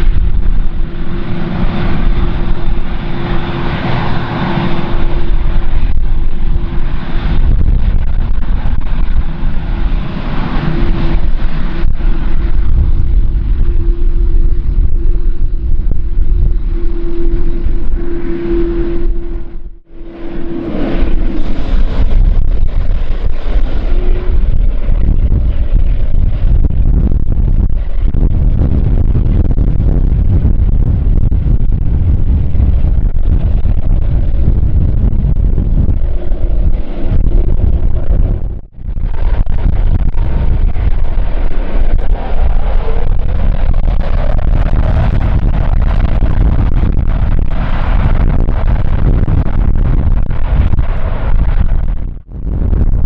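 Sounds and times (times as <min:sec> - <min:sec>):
constant hum: 0:00.0 - 0:53.0
jet airliner engines: 0:00.0 - 0:53.0
wind buffeting microphone: 0:00.0 - 0:53.0.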